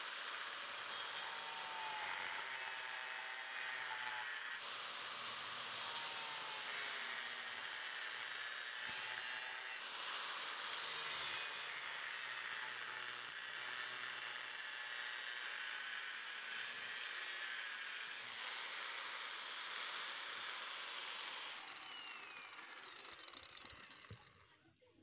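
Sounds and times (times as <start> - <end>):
brake lining being cut: 0.0 - 24.3.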